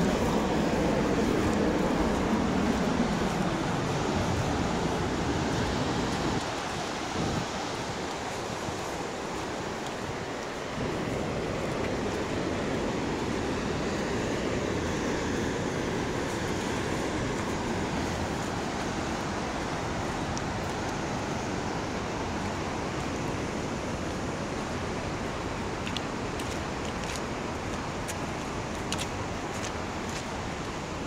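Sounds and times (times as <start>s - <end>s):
fast creek rushing: 0.0s - 31.0s.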